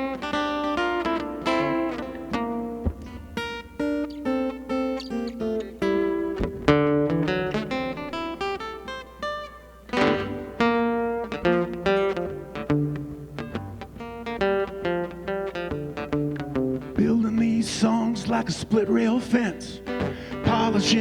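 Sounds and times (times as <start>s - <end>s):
acoustic guitar picking and strumming: 0.0s - 21.0s.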